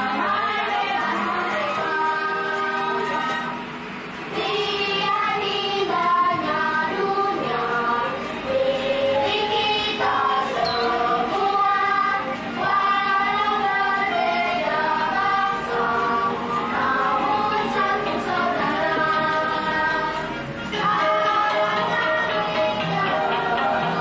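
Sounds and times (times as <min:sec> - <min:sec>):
children singing: 0:00.0 - 0:03.5, 0:04.3 - 0:24.0
backing music: 0:00.0 - 0:24.0.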